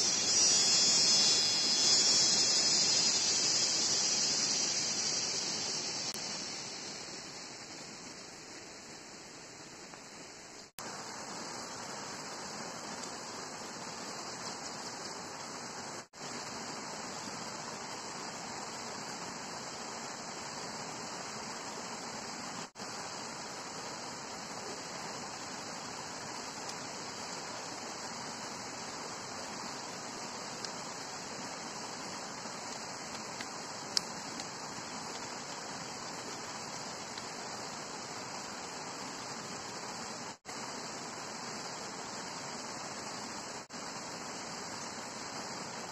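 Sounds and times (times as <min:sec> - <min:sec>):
steady hiss: 0:00.0 - 0:45.9.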